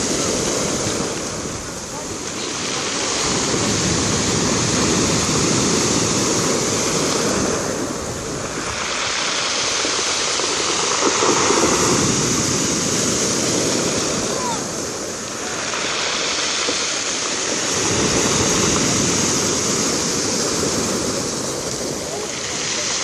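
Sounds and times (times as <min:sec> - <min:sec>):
sea waves breaking on pebbles: 0:00.0 - 0:23.0.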